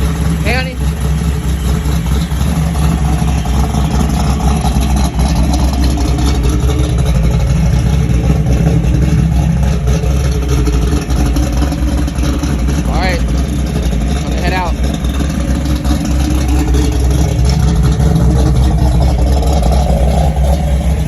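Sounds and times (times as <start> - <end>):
car engine rumbling: 0.0 - 21.0
road noise: 0.0 - 21.0.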